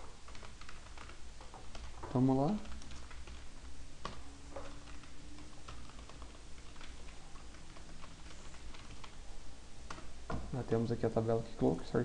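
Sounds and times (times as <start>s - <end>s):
keyboard typing: 0.0s - 10.5s.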